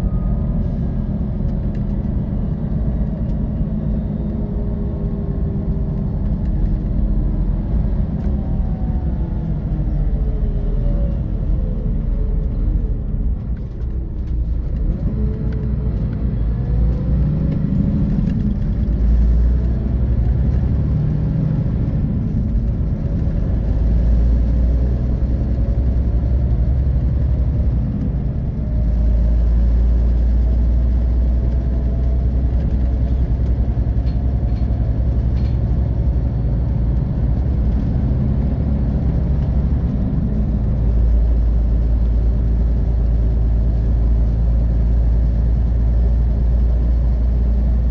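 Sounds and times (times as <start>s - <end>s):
bus diesel engine accelerating: 0.0s - 47.9s
road noise: 0.0s - 47.9s.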